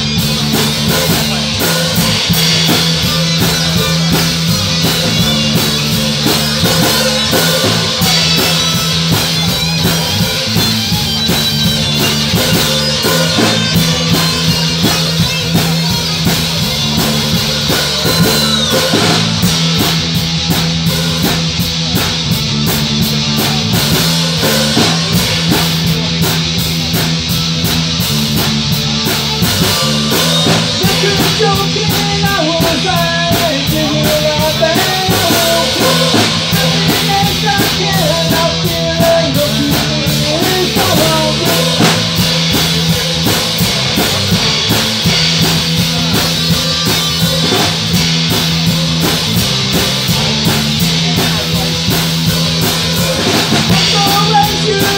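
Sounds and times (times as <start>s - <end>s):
drum kit beat: 0.0s - 54.9s
electric guitars: 0.0s - 54.9s.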